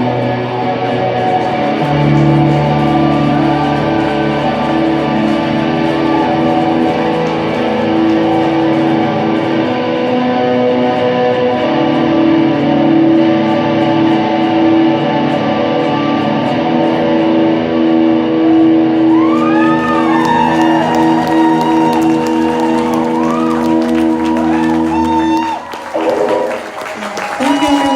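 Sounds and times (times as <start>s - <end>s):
electric guitar chords: 0.0s - 27.9s
high pitch guitar glides: 0.0s - 27.9s.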